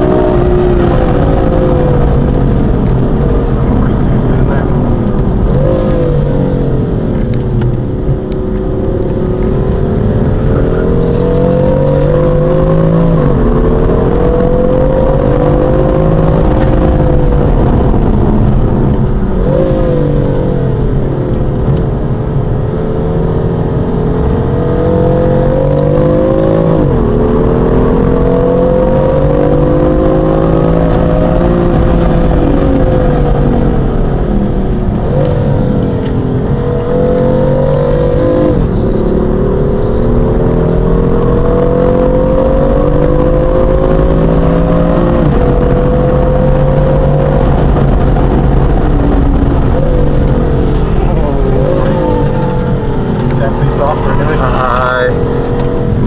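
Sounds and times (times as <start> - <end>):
car engine under load: 0.0 - 56.0.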